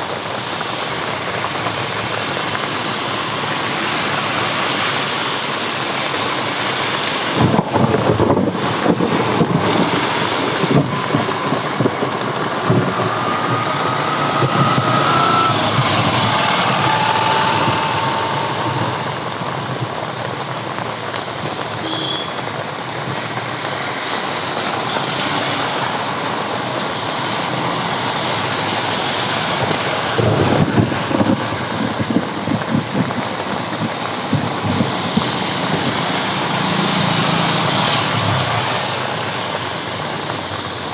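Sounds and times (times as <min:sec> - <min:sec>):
heavy rain: 0:00.0 - 0:40.9
road traffic: 0:00.0 - 0:40.9
rumbling crackling thunder: 0:07.1 - 0:21.8, 0:22.4 - 0:40.9.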